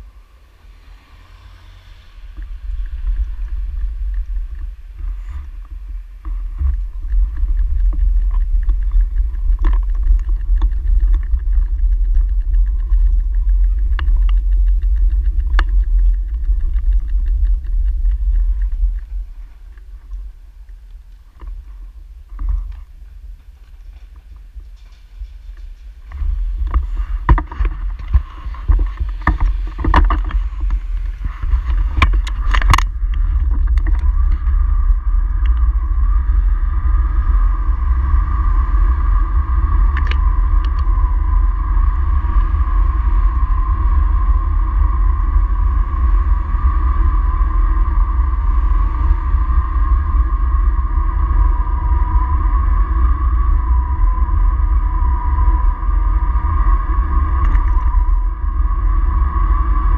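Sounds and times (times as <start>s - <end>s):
bicycle road rumble: 0.0s - 59.9s
wind noise on microphone: 0.0s - 59.9s.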